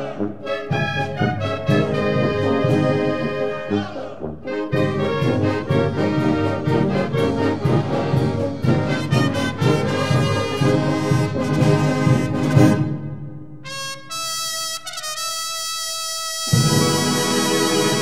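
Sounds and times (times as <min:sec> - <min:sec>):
held brass chord: 0:00.0 - 0:18.0
wind band playing a pasodoble: 0:00.0 - 0:18.0.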